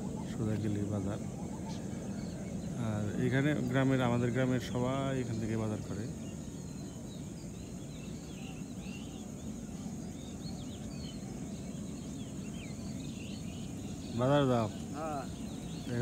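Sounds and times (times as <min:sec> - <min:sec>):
birds chirping: 0:00.0 - 0:16.0
rural outdoor ambience: 0:00.0 - 0:16.0.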